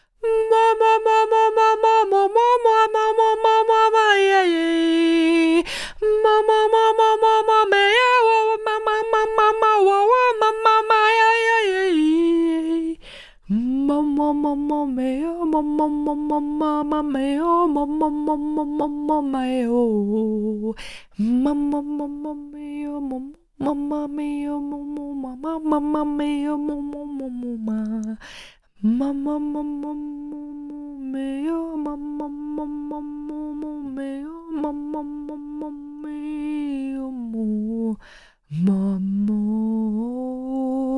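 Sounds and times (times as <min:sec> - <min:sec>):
woman singing unaccompanied: 0:00.0 - 0:40.9.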